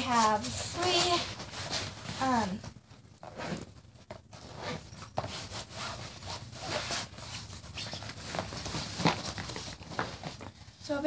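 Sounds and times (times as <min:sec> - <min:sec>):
fabric backpack rustling: 0:00.0 - 0:11.0.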